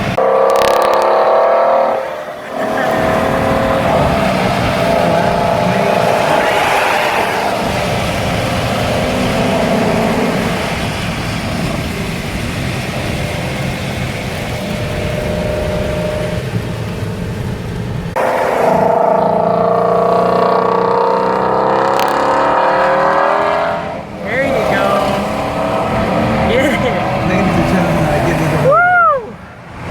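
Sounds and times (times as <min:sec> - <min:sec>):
car engine revving: 0:00.0 - 0:29.9
road noise hiss: 0:00.0 - 0:29.9.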